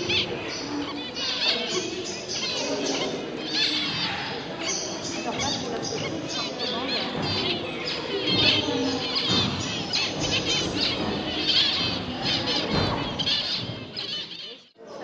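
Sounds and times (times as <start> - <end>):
finches chirping: 0.0 - 14.7
low hubbub: 0.0 - 15.0.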